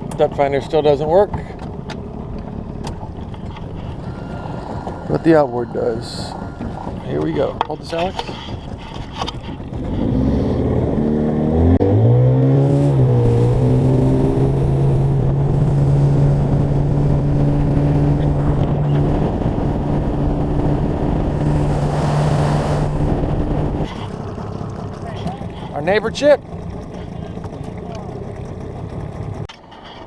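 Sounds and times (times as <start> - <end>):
boat outboard motor revving: 0.0 - 30.0.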